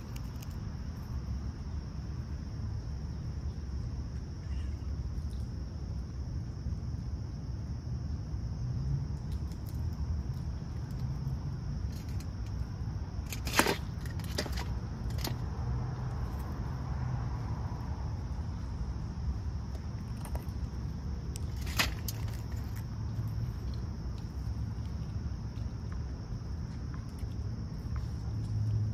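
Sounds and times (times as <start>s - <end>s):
insects buzzing: 0.0s - 28.9s.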